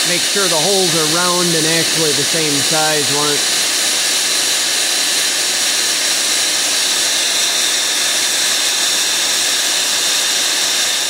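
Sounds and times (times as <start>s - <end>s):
boring machine hissing: 0.0s - 11.0s.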